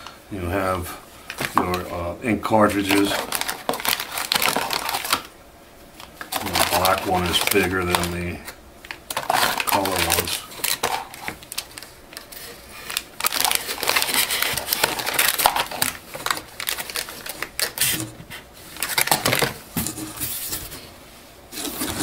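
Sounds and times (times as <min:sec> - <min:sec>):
plastic packaging crinkling: 0:01.3 - 0:05.3, 0:06.0 - 0:20.7.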